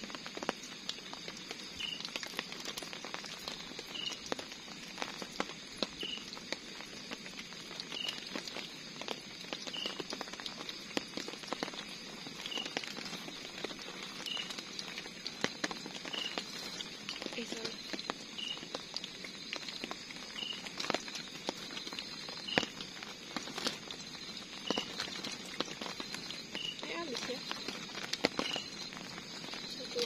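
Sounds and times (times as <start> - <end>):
sausages sizzling in oil: 0.0 - 30.0.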